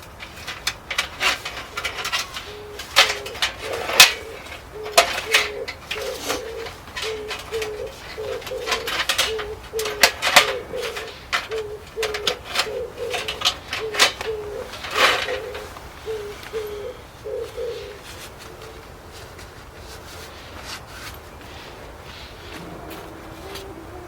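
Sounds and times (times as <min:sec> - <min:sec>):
dove cooing: 0:00.2 - 0:20.6, 0:21.4 - 0:24.0.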